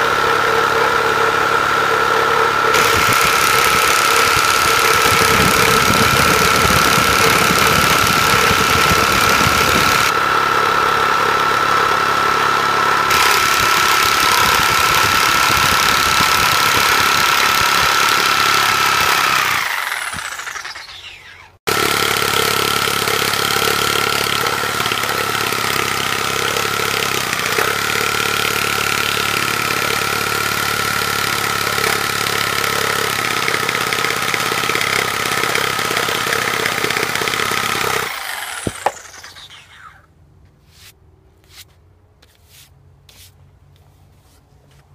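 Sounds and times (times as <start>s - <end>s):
reciprocating saw cutting wood: 0.0s - 40.1s.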